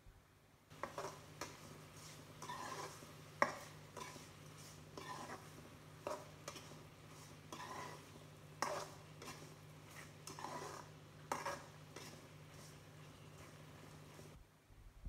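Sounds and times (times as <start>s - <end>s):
spatula scraping a wok: 0.7s - 14.4s.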